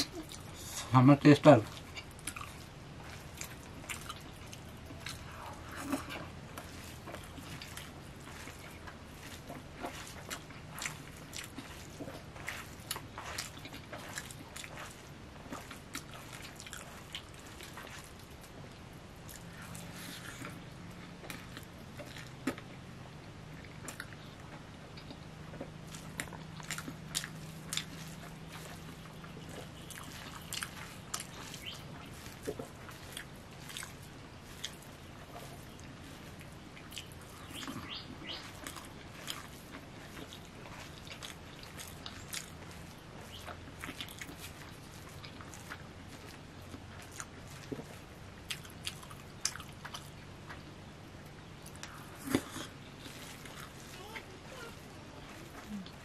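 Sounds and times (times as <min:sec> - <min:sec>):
man chewing: 0:00.0 - 0:56.0.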